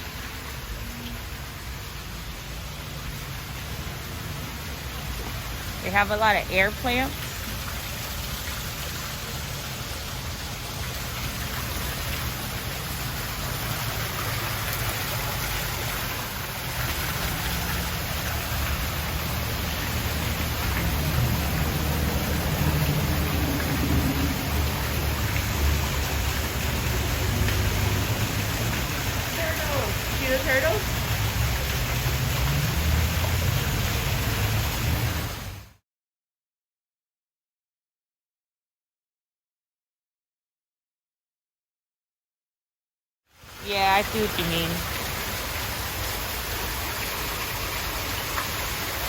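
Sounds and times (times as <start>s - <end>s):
waterfall splashing: 0.0s - 35.8s, 43.4s - 49.0s.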